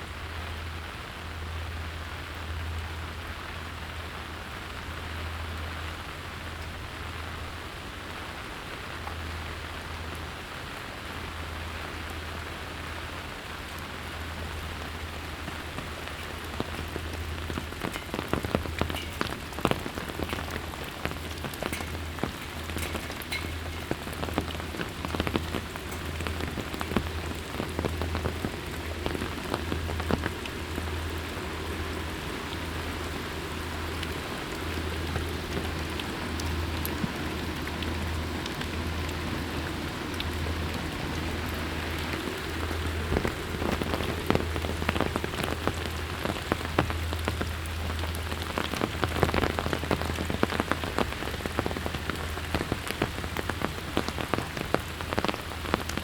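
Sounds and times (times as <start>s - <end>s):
raindrops ticking on hard surface: 0.0s - 56.0s
steady rain falling: 0.0s - 56.0s.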